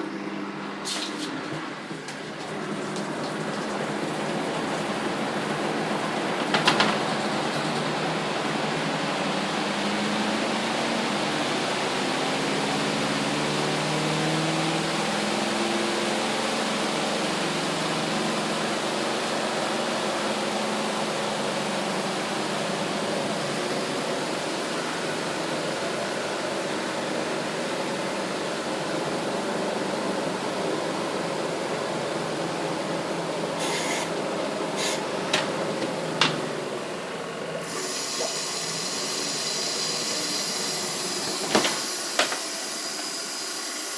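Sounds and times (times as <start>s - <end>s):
washing machine churning: 0.0s - 43.9s.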